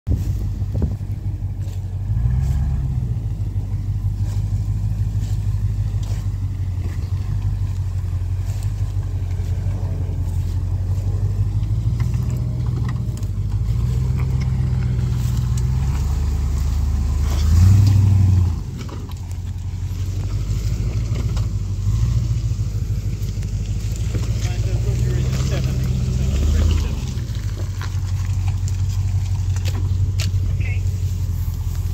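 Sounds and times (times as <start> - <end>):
engine running and revving: 0.0 - 31.9.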